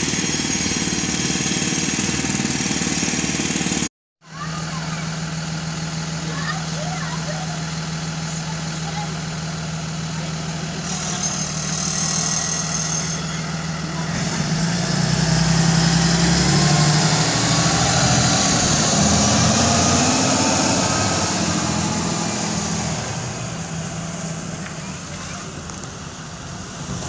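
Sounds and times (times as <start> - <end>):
bus engine accelerating: 0.0 - 27.0.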